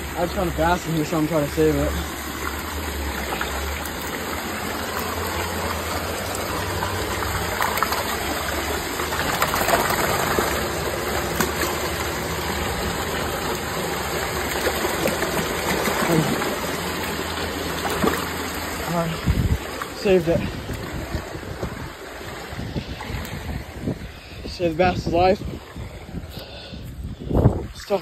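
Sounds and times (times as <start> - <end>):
water rushing over spillway: 0.0 - 26.4
water splashing: 0.0 - 28.0.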